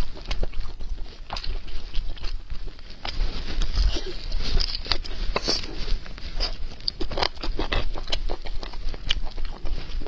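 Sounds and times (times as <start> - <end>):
wet chewing mouth sounds: 0.0 - 10.0.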